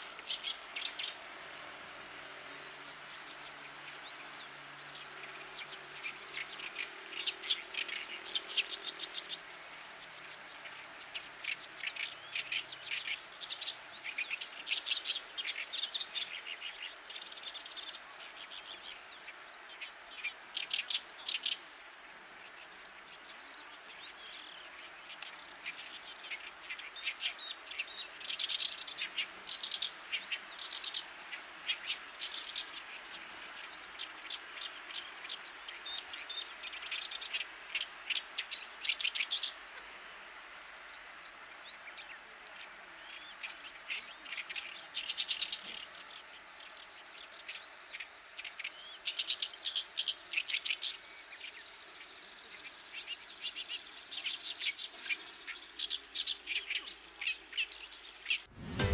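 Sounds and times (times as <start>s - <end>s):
reed warbler singing: 0.0s - 58.9s.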